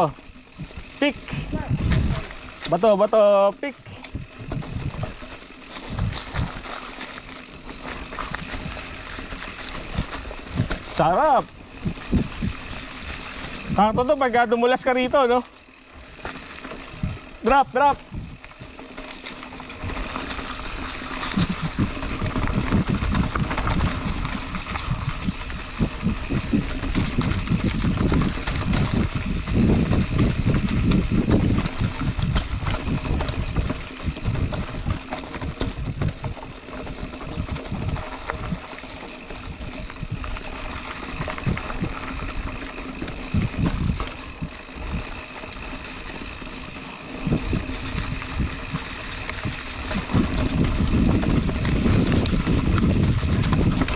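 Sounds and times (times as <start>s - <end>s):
wind rumble on microphone: 0.0s - 2.8s, 3.8s - 14.2s, 16.8s - 18.8s, 19.6s - 53.9s
bike tyres rattling over rocks: 0.0s - 53.9s.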